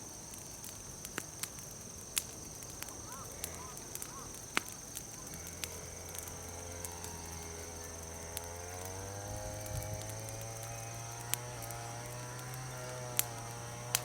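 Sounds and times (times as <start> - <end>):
wood fire crackling pops: 0.0 - 14.0.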